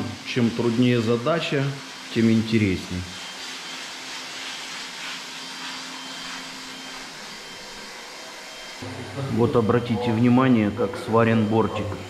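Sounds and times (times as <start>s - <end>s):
blower motor whooshing: 0.0s - 12.0s.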